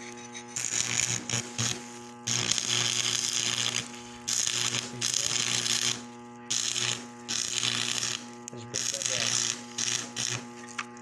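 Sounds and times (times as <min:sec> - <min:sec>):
steady low hum: 0:00.0 - 0:11.0
welding arc crackling: 0:00.0 - 0:11.0.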